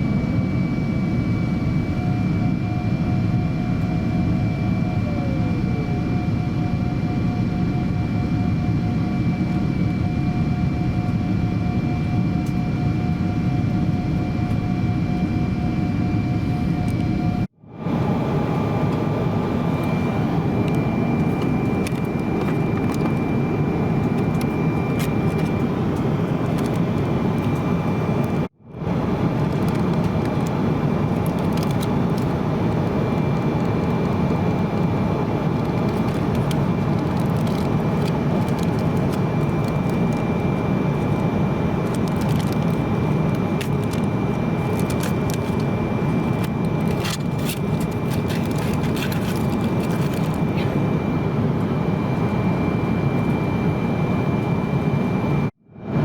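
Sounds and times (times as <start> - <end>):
airliner cabin rumble and airflow: 0.0 - 56.0
faint high whine: 0.0 - 56.0.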